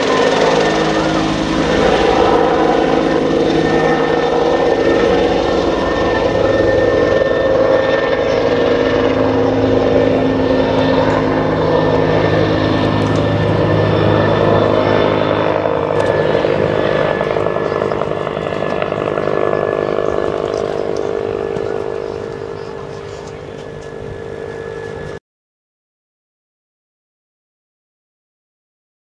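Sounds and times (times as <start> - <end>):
helicopter rotor and engine: 0.0 - 25.2.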